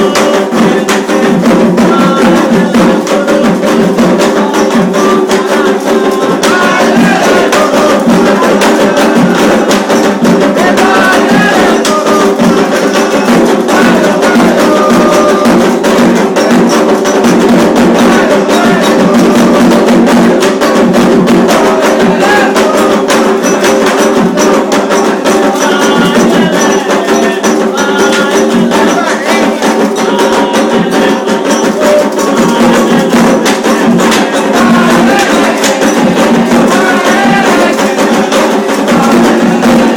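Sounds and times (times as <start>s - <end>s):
hand drums beating fast rhythm: 0.0s - 39.9s
voices singing: 0.0s - 39.9s.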